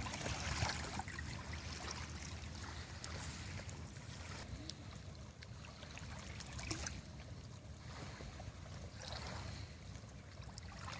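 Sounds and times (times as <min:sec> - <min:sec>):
low steady rumble: 0:00.0 - 0:10.9
water splashing and lapping: 0:00.0 - 0:10.9.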